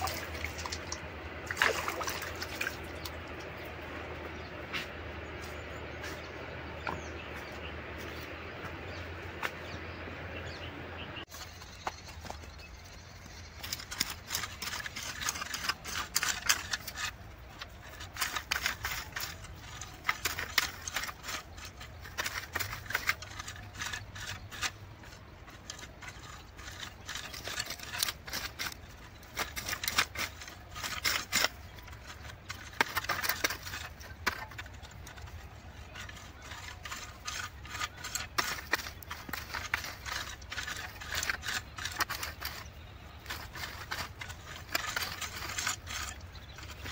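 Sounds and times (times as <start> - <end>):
hand tool raking dry soil: 0.0 - 9.0, 11.3 - 46.9.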